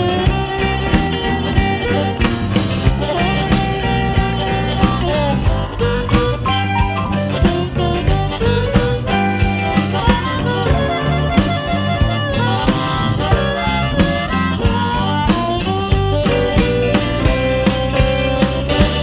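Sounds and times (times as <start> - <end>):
bass and drums: 0.0 - 19.0
electric guitar: 0.0 - 19.0.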